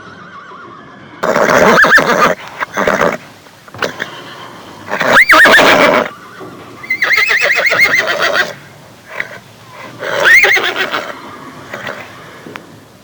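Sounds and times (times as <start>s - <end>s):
horse neighing: 1.2s - 13.0s.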